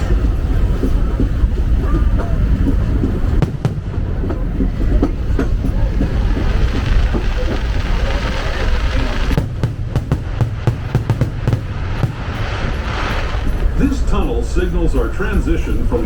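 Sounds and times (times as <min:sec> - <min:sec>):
train car rumbling on track: 0:00.0 - 0:16.0.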